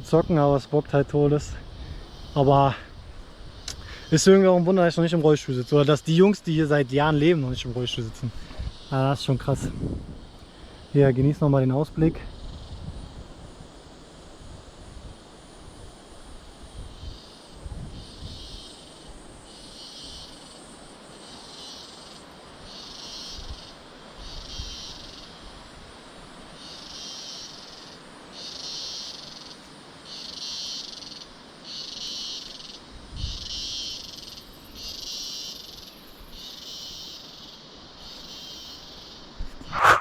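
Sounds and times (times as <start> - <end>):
insects buzzing in chorus: 0.0 - 40.0
steady hiss: 0.0 - 40.0.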